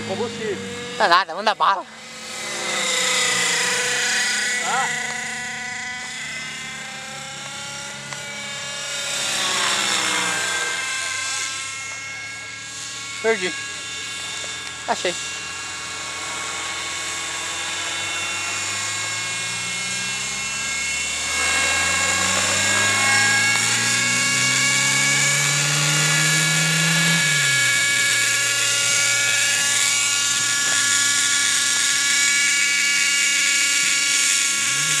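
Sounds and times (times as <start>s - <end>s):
model helicopter engine whining: 0.0s - 35.0s.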